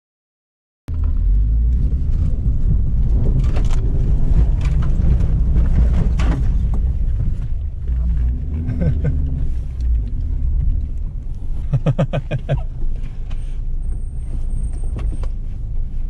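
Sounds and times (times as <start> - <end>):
motorcycle engine rumbling: 0.9 - 15.3.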